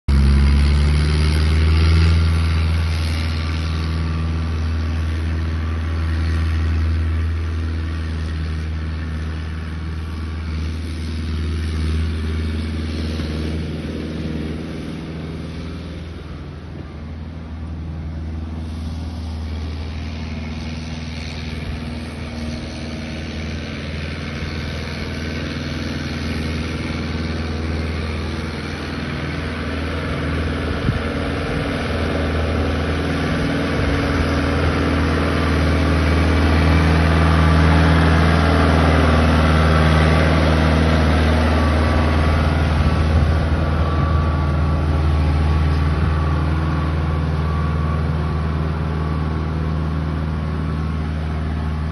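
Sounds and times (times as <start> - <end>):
tractor engine running: 0.1 - 51.9.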